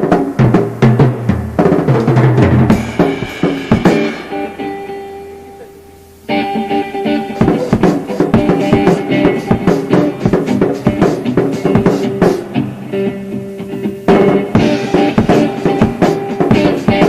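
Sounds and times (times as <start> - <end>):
rock band playing: 0.0 - 5.7, 6.3 - 17.0
drum kit beat: 0.0 - 17.0
sustained guitar chords: 2.2 - 17.0.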